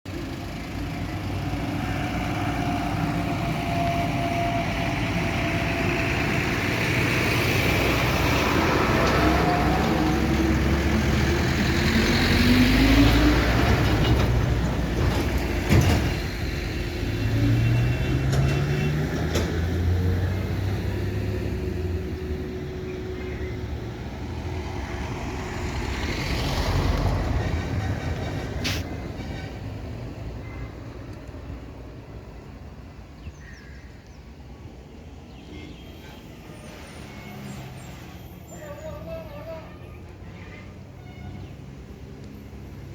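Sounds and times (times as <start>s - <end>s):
heavy truck engines pulling uphill: 0.1s - 42.9s.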